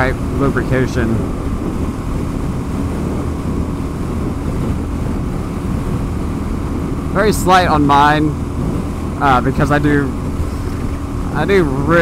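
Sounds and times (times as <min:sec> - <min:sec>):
motorcycle engine cruising: 0:00.0 - 0:12.0
wind buffeting microphone: 0:00.0 - 0:12.0.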